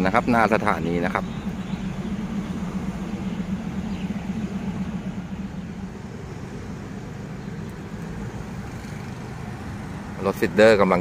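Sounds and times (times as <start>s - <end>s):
diesel railcar engine idling: 0.0s - 11.0s.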